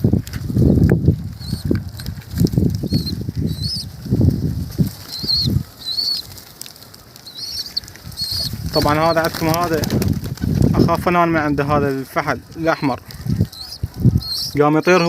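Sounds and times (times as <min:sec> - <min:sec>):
pigeons flapping wings: 0:00.0 - 0:15.0.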